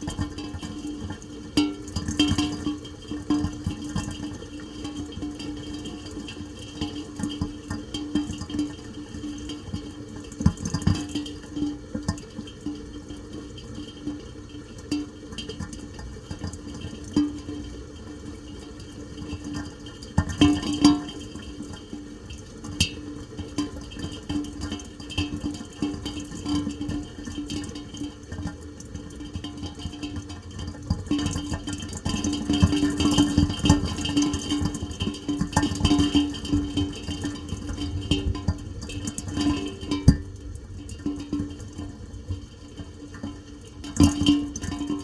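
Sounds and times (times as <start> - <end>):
rain and dripping water: 0.0 - 45.0.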